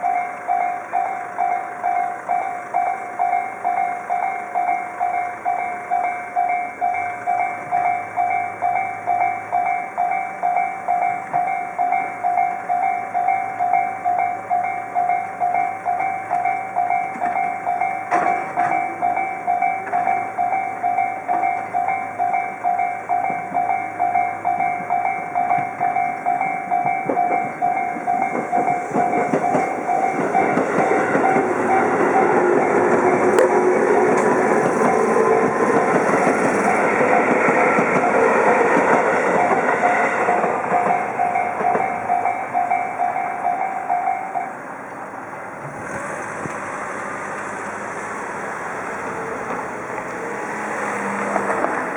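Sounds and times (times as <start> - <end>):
railroad crossing alarm clanging: 0.0 - 51.9
train passing: 0.0 - 51.9.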